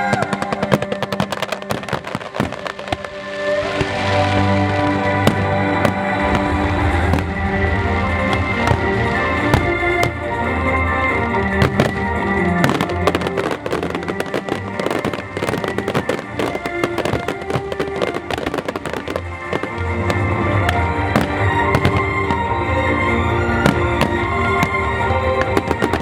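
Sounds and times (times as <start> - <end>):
fireworks bursting and crackling: 0.0 - 26.0
music: 0.0 - 26.0.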